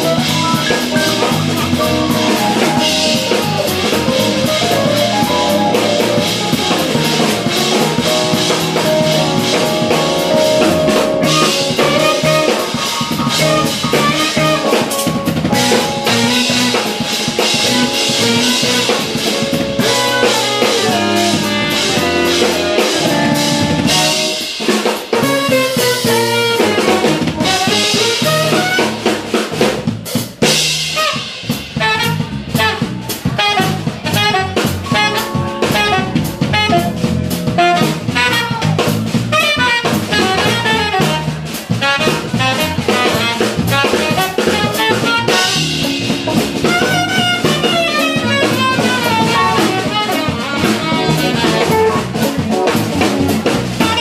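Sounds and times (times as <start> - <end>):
alto saxophone: 0.0 - 29.3, 30.9 - 54.0
drum kit with rimshots: 0.0 - 54.0
jazz fusion band playing: 0.0 - 54.0.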